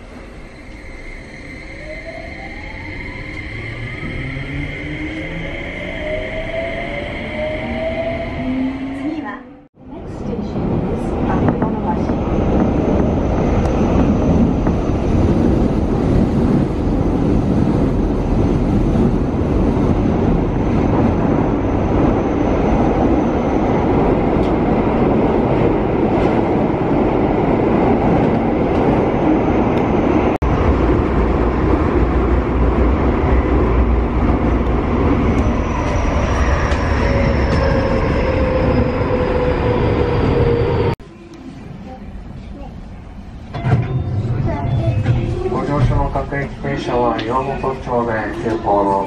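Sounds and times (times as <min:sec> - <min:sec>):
subway train wheels rumbling: 0:00.0 - 0:49.0.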